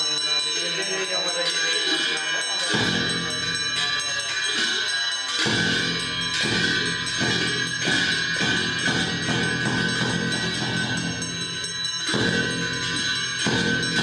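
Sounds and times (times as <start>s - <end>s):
cymbals ringing: 0.0s - 14.0s.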